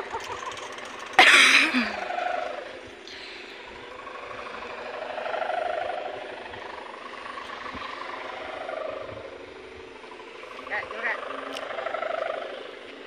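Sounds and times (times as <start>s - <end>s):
kite hummer droning: 0.0s - 13.0s.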